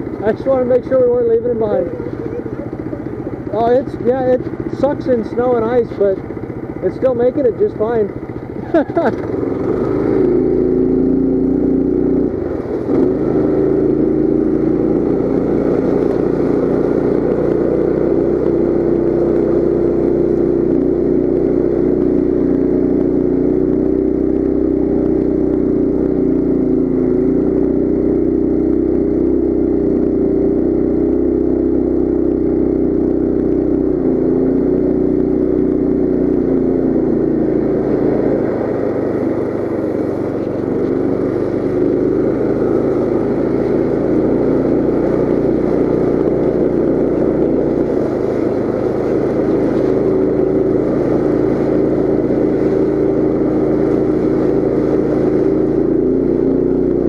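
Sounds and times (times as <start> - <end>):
mini bike engine running: 0.0 - 57.0.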